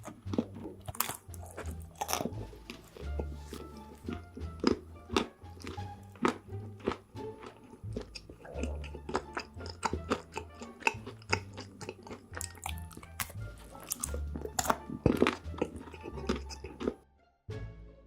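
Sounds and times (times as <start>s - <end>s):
chewing and crunching food: 0.0s - 17.0s
background music with bass: 0.0s - 18.0s.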